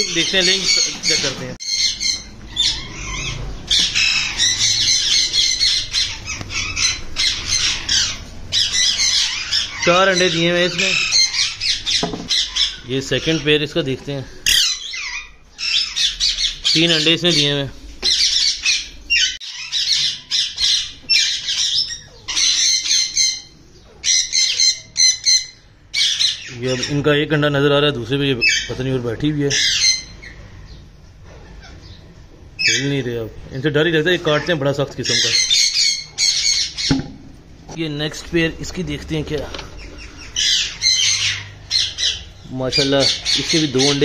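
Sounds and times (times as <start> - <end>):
parrots screeching: 0.0 - 13.6, 14.4 - 27.2, 28.4 - 28.8, 29.4 - 33.0, 34.2 - 37.6, 39.7 - 44.0.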